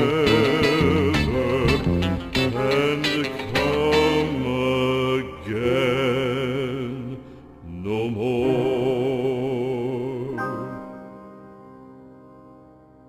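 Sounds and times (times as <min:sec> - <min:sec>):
person singing with vibrato: 0:00.0 - 0:11.2.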